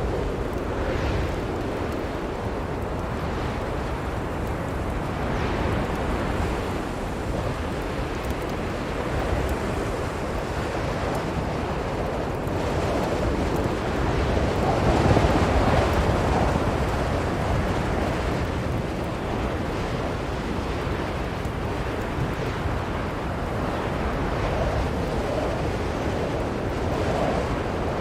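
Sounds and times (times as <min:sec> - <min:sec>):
blizzard wind blowing: 0:00.0 - 0:28.0.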